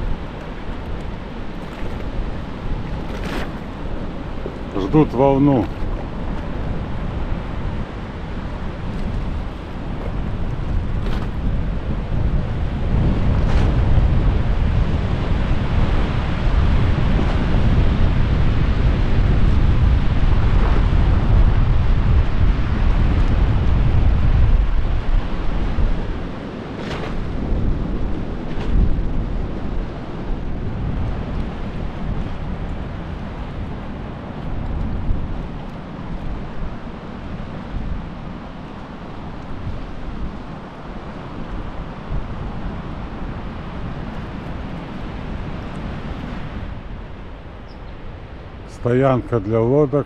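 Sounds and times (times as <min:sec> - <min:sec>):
strong wind buffeting microphone: 0:00.0 - 0:50.0.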